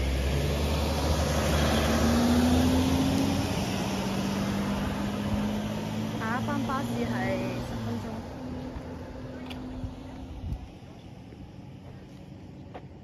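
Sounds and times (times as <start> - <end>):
large vehicle engine running: 0.0 - 13.0.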